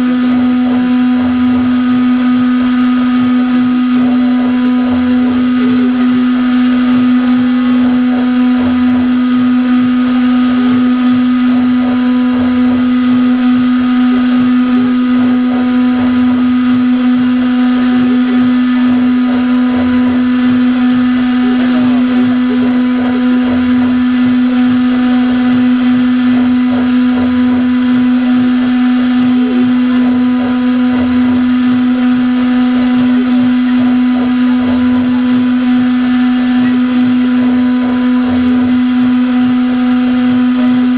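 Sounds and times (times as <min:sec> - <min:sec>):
router spindle high whine: 0:00.0 - 0:40.9.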